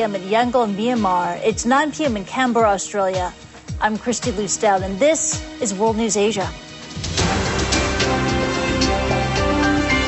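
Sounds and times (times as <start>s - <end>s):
news theme music: 0.0s - 10.0s.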